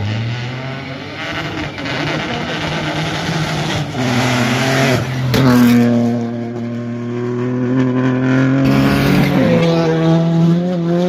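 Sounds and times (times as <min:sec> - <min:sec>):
rally car engine running hard: 0:00.0 - 0:11.0.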